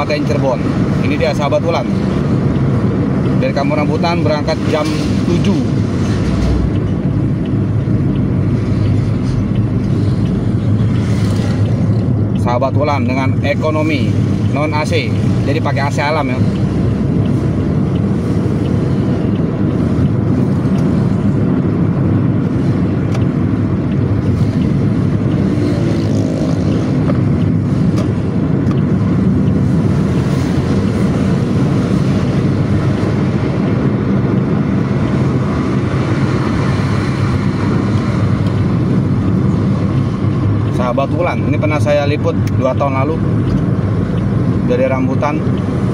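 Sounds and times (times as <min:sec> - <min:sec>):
road and wind noise: 0:00.0 - 0:45.9
vehicle engine hum: 0:00.0 - 0:45.9.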